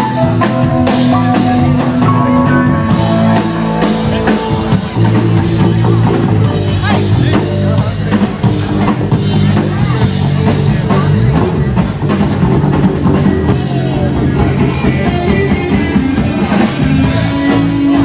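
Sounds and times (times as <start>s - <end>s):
drum kit: 0.0s - 18.0s
electric guitar: 0.0s - 18.0s.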